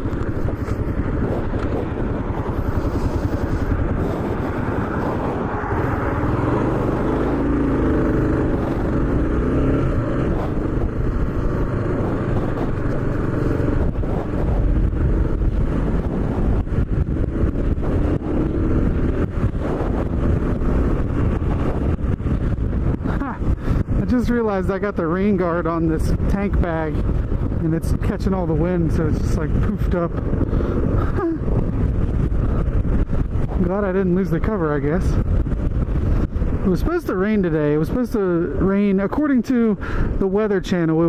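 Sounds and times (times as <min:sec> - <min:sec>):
motorcycle engine running: 0:00.0 - 0:41.0
rapid wind buffeting: 0:00.0 - 0:41.0
wind rushing over microphone: 0:00.0 - 0:41.0.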